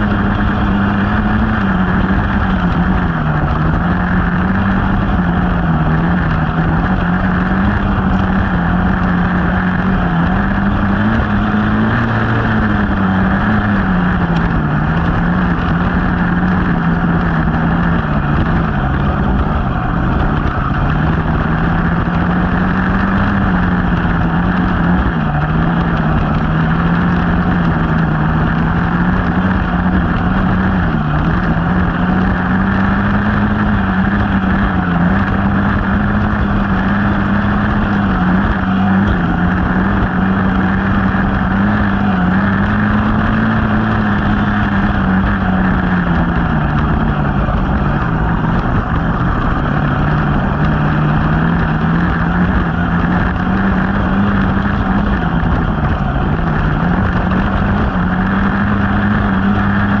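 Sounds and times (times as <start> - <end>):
constant rushing noise: 0.0 - 60.0
dirt bike engine running hard: 0.0 - 60.0.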